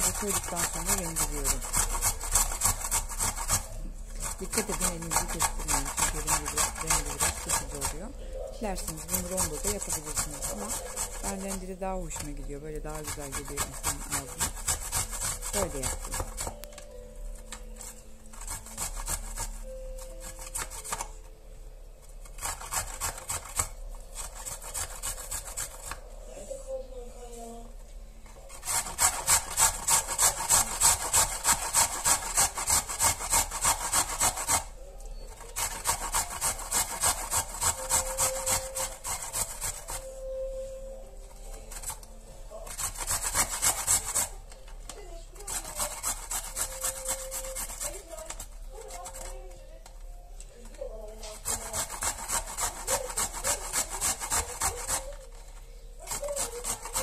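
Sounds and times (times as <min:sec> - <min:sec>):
ginger grated on a grater: 0:00.0 - 0:16.7, 0:17.3 - 0:21.3, 0:22.1 - 0:26.5, 0:28.3 - 0:49.8, 0:50.6 - 0:57.0.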